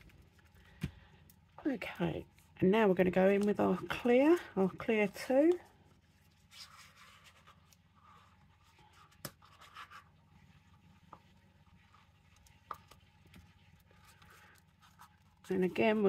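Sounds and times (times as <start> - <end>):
faint scratching: 1.7 - 16.0.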